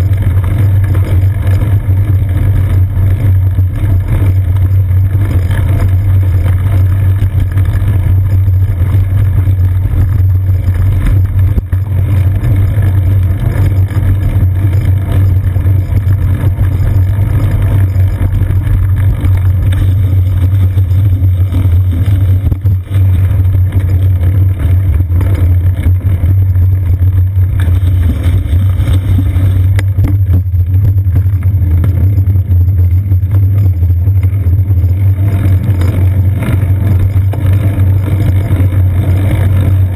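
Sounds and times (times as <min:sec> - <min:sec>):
wind rumble while riding: 0:00.0 - 0:39.9.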